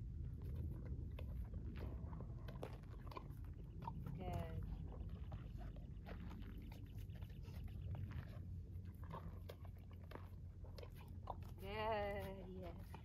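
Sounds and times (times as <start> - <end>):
faint crunching and clicking: 0.0 - 13.0
low steady rumble: 0.0 - 13.0.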